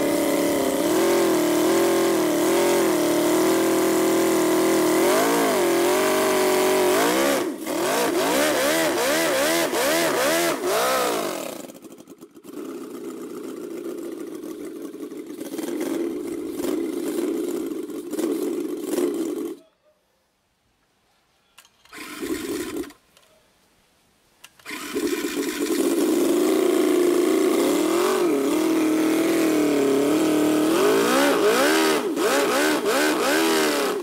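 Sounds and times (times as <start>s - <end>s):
engine revving: 0.0s - 19.6s, 24.7s - 34.0s.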